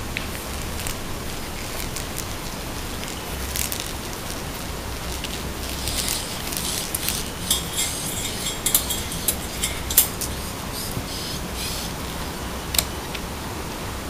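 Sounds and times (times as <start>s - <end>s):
low steady hum: 0.0s - 14.0s
puppy paws clicking and scratching: 0.2s - 13.2s.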